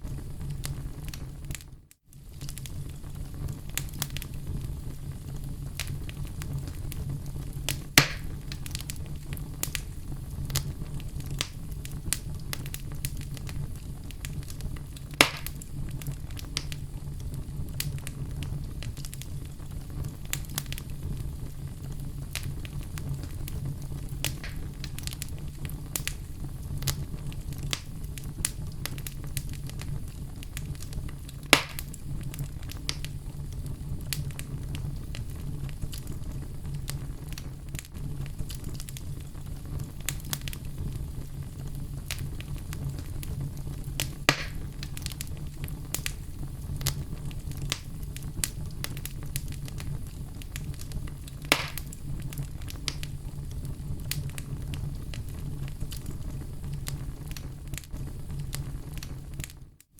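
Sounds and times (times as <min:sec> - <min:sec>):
loud fire pops: 0:00.0 - 0:59.6
fire crackling: 0:00.0 - 0:59.9
fire flame rumble: 0:00.0 - 0:59.9.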